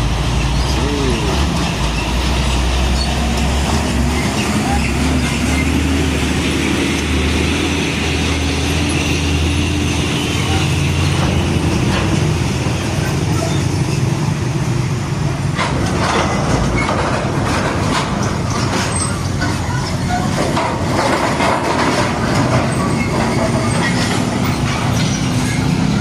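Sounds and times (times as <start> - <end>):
diesel truck engine running: 0.0 - 26.0
road traffic noise: 0.0 - 26.0.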